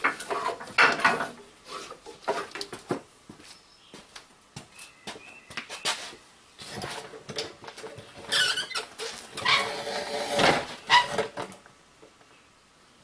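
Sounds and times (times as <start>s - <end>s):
rustling and scraping by hand: 0.0s - 11.6s.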